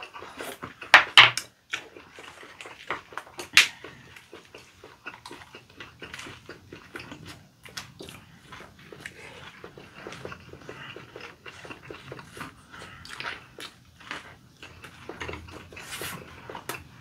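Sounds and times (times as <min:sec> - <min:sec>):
wet chewing with crackling clicks: 0:00.0 - 0:17.0.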